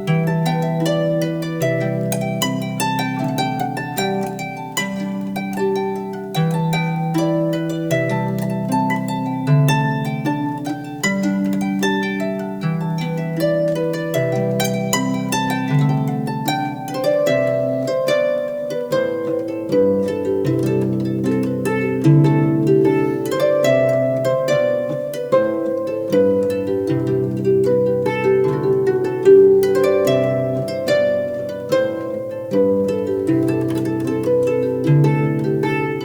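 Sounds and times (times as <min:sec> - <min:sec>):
harp music: 0:00.0 - 0:36.0.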